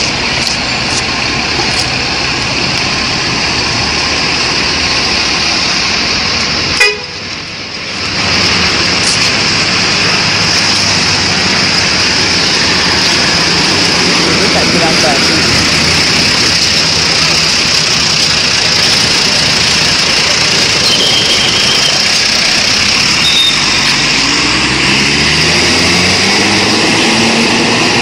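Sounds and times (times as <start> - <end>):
bus engine running: 0.0 - 28.0.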